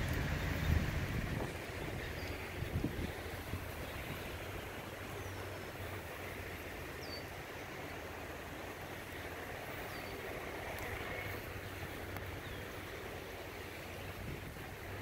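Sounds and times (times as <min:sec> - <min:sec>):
wind rumbling on microphone: 0:00.0 - 0:06.8, 0:08.4 - 0:15.0.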